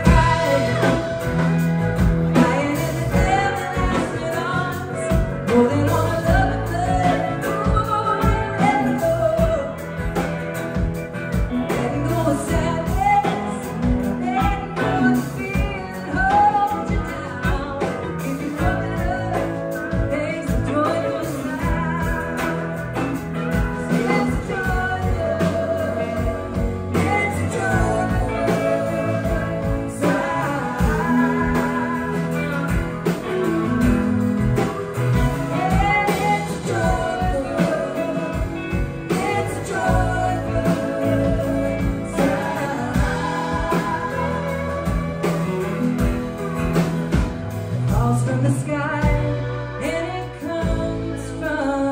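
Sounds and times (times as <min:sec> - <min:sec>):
live band playing: 0:00.0 - 0:51.9
woman singing: 0:00.0 - 0:51.9.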